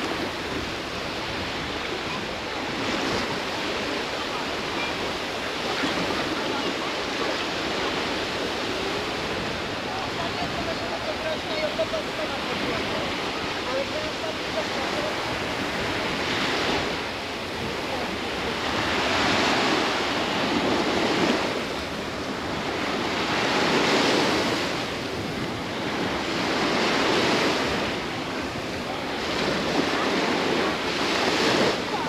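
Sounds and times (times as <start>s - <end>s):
waves breaking on beach: 0.0s - 32.0s.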